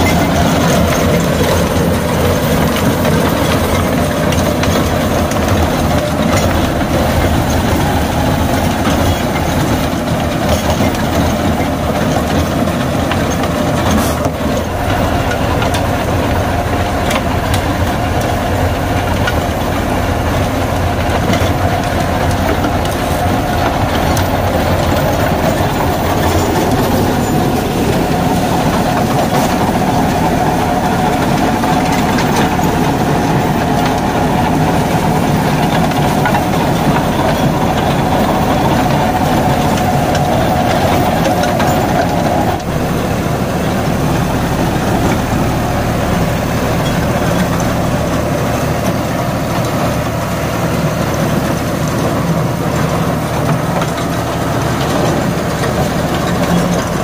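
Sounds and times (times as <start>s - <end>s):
steady whine: 0.0s - 57.0s
tractor engine under load: 0.0s - 57.0s.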